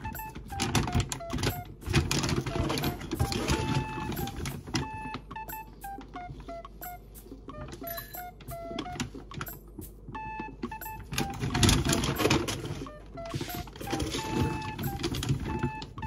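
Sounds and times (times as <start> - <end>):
soft plucked background music: 0.0 - 16.0.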